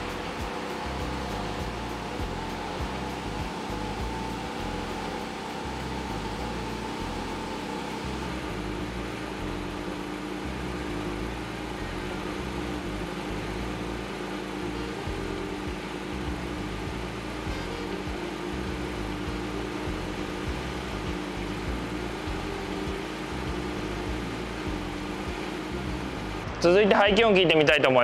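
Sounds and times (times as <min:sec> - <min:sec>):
background music with bass line: 0:00.0 - 0:27.8
car engine idling: 0:00.0 - 0:28.0.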